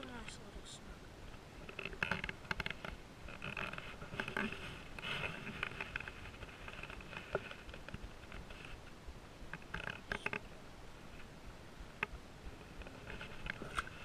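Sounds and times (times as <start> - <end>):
rustling and clicks of handling fish: 1.2 - 14.0.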